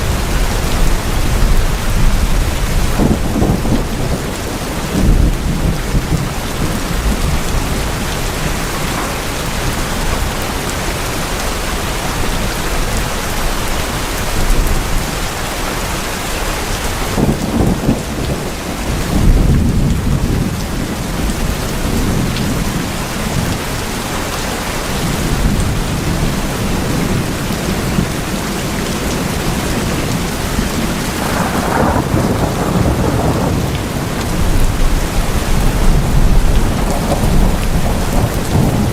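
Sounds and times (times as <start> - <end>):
thunder rumbling: 0.0 - 11.6, 17.0 - 23.6, 25.1 - 38.9
rain drumming on tin roofs: 0.0 - 38.9.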